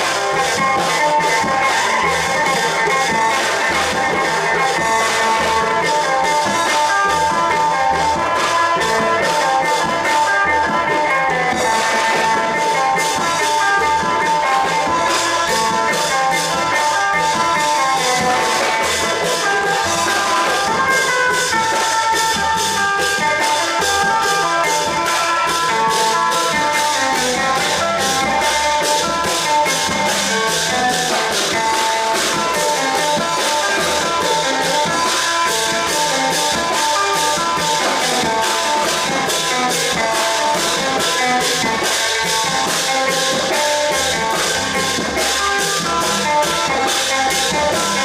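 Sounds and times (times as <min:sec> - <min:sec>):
fast drumbeat: 0:00.0 - 0:48.0.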